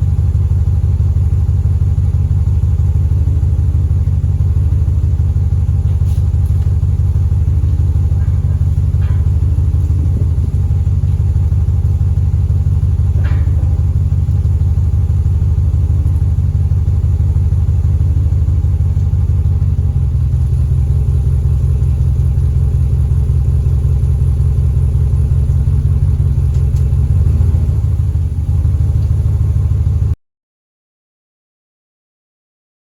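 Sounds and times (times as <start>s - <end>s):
pickup engine idling: 0.0s - 30.2s.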